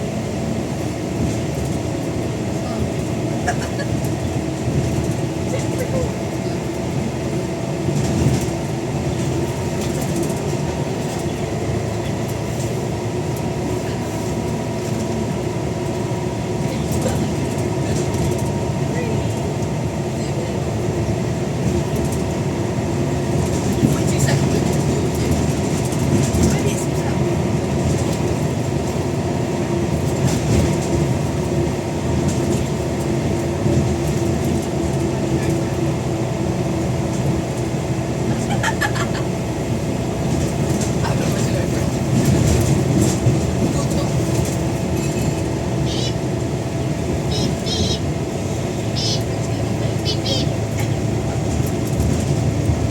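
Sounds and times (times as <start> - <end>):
bus engine droning: 0.0 - 52.9
light body rattling: 1.1 - 45.8.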